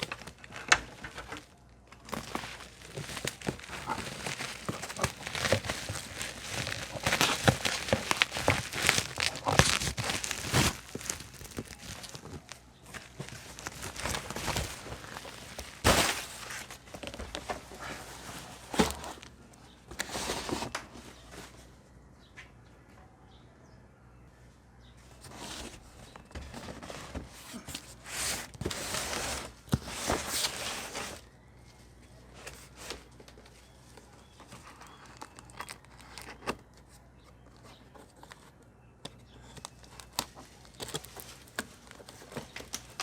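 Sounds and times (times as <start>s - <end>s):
packaging rustling and crinkling: 0.0s - 21.6s, 25.2s - 43.0s.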